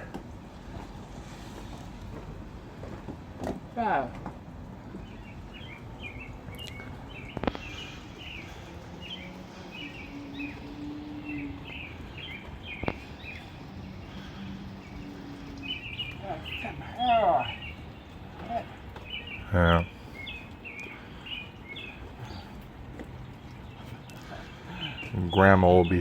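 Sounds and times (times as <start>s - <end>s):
small birds chirping: 4.7s - 26.0s.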